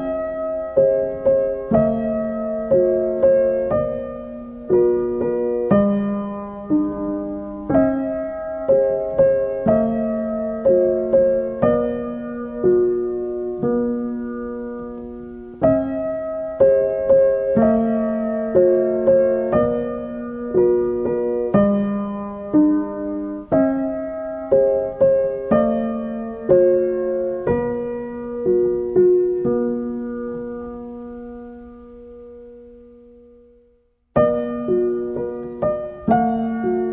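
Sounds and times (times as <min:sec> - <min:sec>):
slow solo piano melody: 0:00.0 - 0:36.9.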